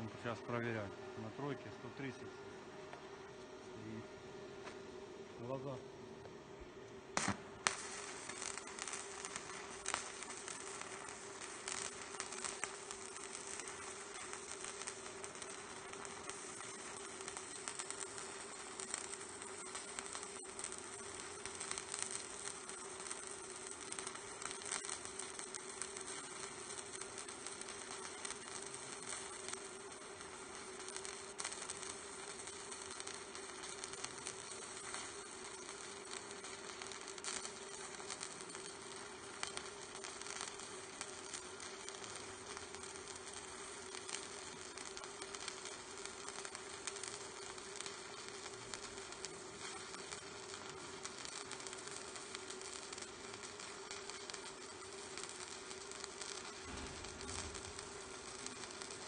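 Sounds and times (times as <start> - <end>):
welding arc crackling sizzle: 0.0 - 2.3, 4.6 - 5.8, 6.6 - 59.0
constant buzz: 0.0 - 59.0.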